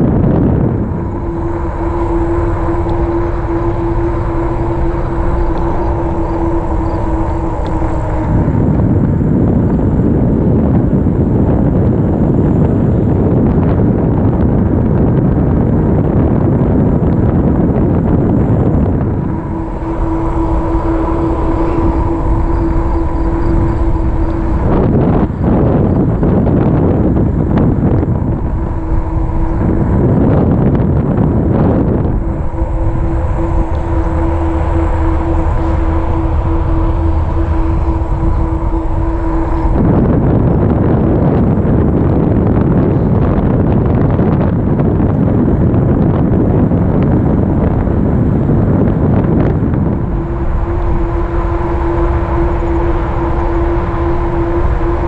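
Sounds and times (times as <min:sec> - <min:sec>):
bike tyre rumble: 0:00.0 - 0:55.0
electric motor hum: 0:00.0 - 0:55.0
wind noise on microphone: 0:00.0 - 0:55.0.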